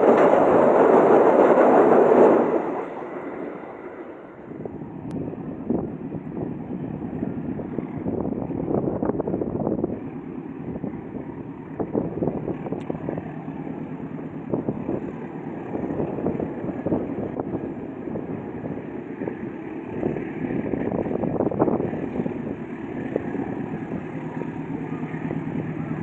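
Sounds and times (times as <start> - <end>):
distant diesel locomotive running: 0.0 - 26.0
wind buffeting microphone: 0.0 - 26.0.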